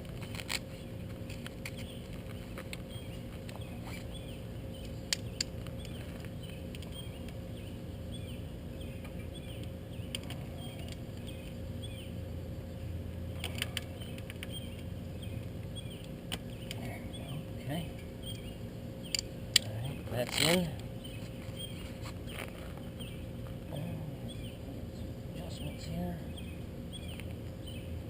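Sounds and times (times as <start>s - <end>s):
steady low hum: 0.0s - 28.0s
small birds chirping: 0.1s - 28.0s.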